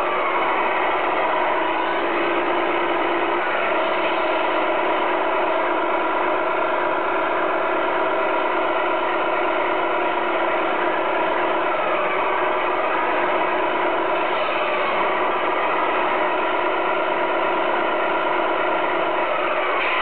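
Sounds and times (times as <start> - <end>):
toy truck motor humming: 0.0 - 20.0.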